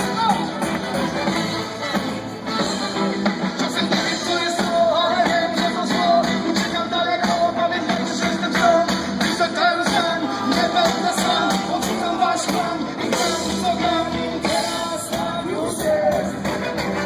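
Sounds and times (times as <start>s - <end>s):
live reggae band music: 0.0s - 17.0s
person singing: 0.0s - 17.0s.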